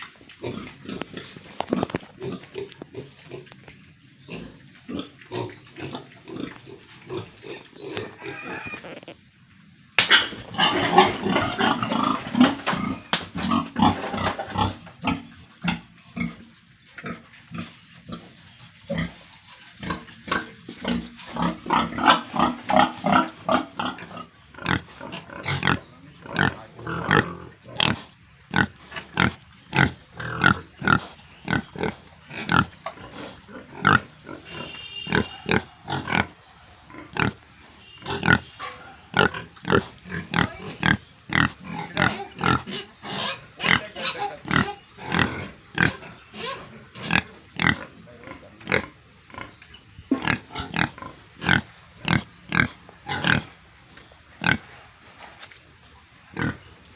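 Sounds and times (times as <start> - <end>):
pigs grunting: 0.4 - 3.6, 4.2 - 9.3, 10.2 - 19.2, 19.8 - 53.6, 54.4 - 55.0, 56.3 - 56.7.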